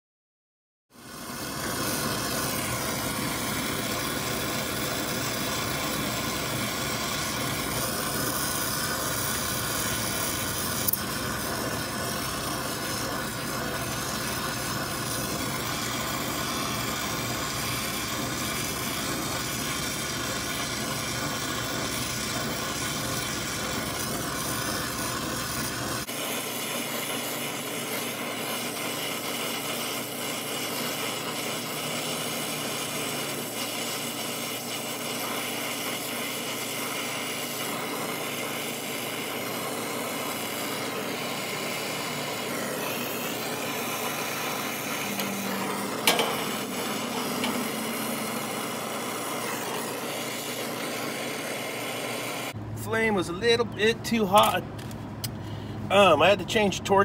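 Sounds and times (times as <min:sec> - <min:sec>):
torch flame hissing: 0:00.9 - 0:56.7.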